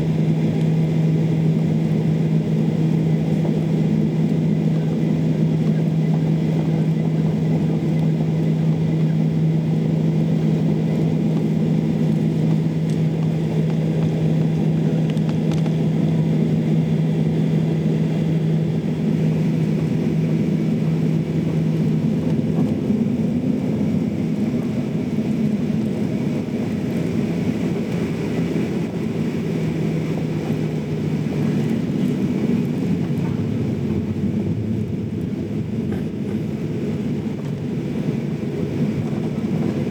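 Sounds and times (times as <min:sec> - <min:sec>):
airliner cabin hum: 0:00.0 - 0:39.9.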